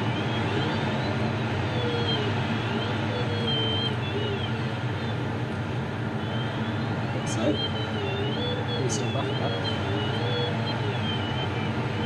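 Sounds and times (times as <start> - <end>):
rush of air over canopy: 0.0 - 12.0.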